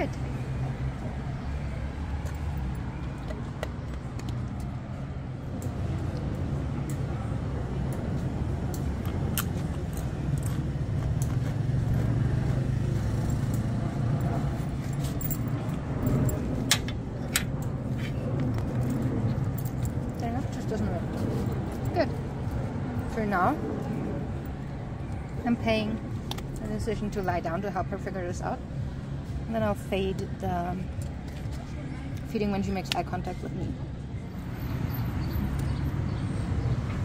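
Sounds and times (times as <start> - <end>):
street traffic rumble: 0.0 - 37.0.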